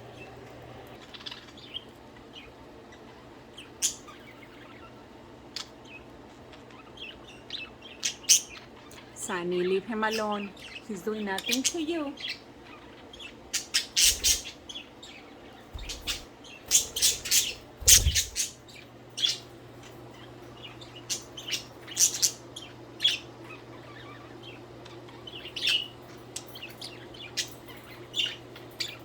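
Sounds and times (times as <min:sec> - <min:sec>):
budgies chirping: 0:00.0 - 0:29.0
steady low hum: 0:00.0 - 0:29.0.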